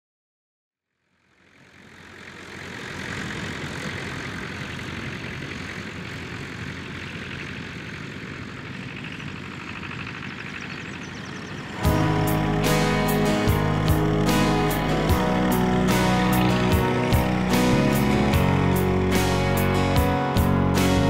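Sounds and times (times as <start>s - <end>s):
tractor engine running: 1.1s - 21.0s.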